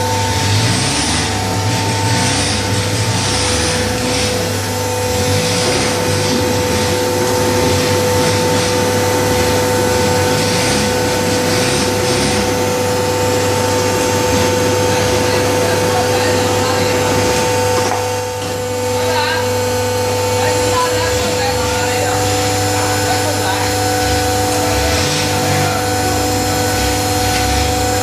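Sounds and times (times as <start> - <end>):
hydraulic pump motor humming: 0.0 - 28.0.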